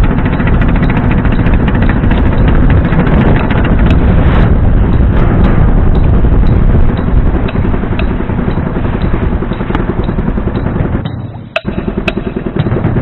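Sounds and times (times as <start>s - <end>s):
wind buffeting microphone: 0.0s - 11.1s
small boat engine running: 0.0s - 13.0s.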